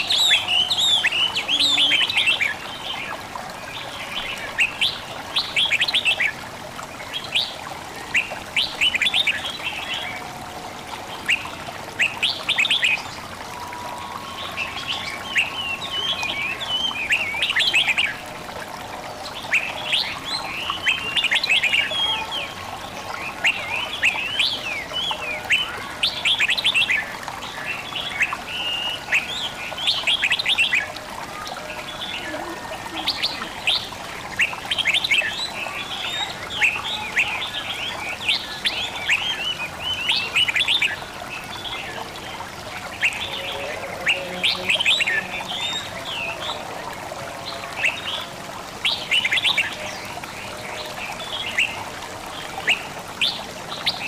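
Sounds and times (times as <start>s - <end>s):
songbirds chirping and twittering: 0.0s - 54.0s
water trickling: 0.0s - 54.0s.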